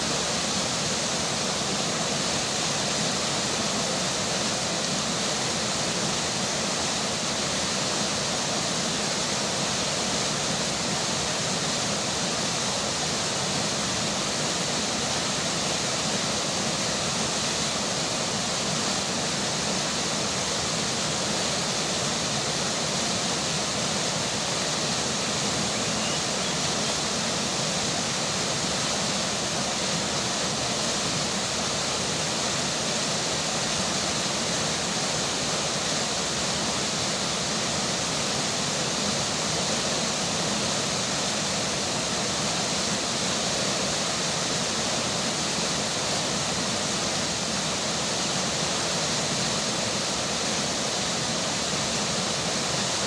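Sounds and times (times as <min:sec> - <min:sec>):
rainfall: 0:00.0 - 0:53.0
river flowing: 0:00.0 - 0:53.0.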